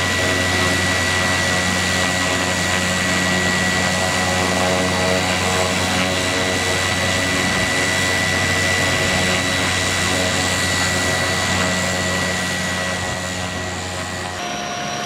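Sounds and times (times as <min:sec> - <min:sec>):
propeller drone: 0:00.0 - 0:15.0
turbine whine: 0:00.0 - 0:15.0.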